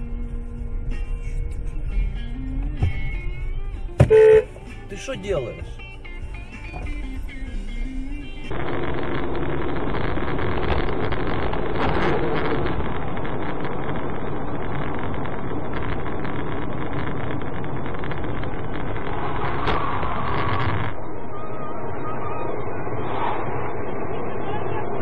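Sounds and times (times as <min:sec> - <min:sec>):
car engine noise: 0:00.0 - 0:25.0.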